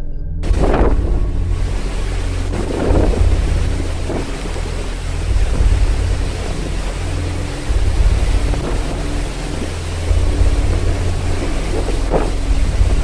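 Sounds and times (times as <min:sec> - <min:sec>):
sea and spray breaking on hull: 0:00.4 - 0:13.0
wind gusting over microphone: 0:00.4 - 0:13.0.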